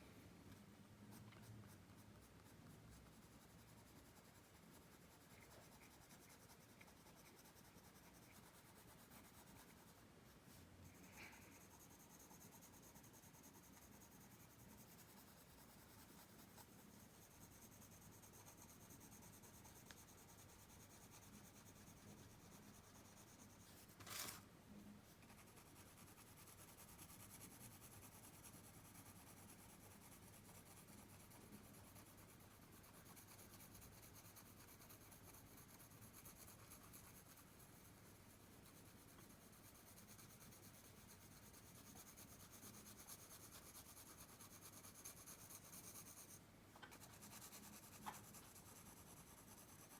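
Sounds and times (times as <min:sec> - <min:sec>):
pencil scratching on paper: 0:01.1 - 0:24.4, 0:25.1 - 0:49.9.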